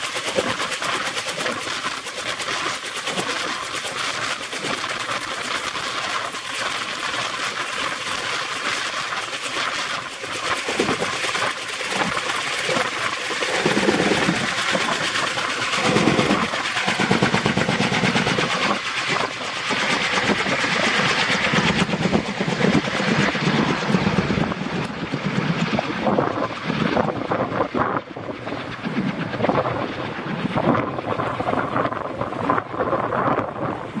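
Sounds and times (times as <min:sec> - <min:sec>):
helicopter engine noise: 0:00.0 - 0:34.0
helicopter rotors beating: 0:00.0 - 0:34.0.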